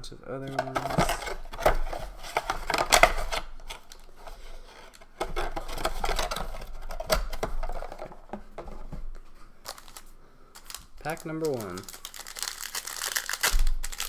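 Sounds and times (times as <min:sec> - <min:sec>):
packaging crinkling: 0:00.4 - 0:14.0.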